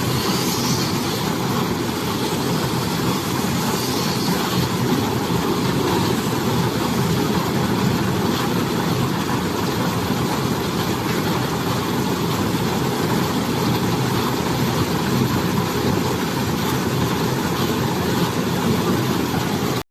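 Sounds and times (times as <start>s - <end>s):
baler and wrapper machine running: 0.0s - 19.8s.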